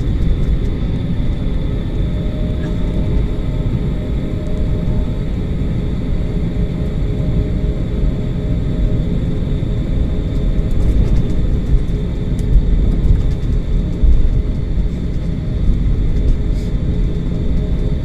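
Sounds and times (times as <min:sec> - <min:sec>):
jet engines low rumble: 0:00.0 - 0:18.0.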